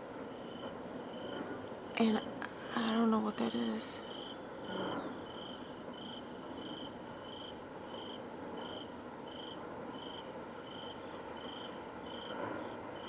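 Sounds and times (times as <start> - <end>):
continuous even noise: 0.0 - 13.0
cricket chirping: 0.1 - 13.0.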